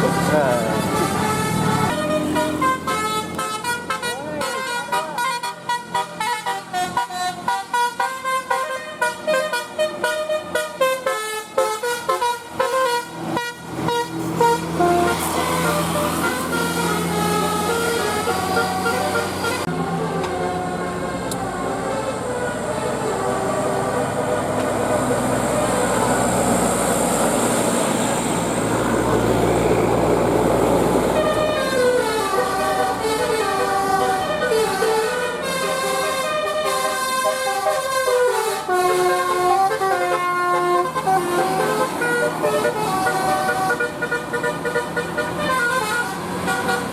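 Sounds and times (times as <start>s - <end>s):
musical bus horn playing tune: 0.0s - 27.8s, 29.1s - 46.9s
road noise: 0.0s - 46.9s.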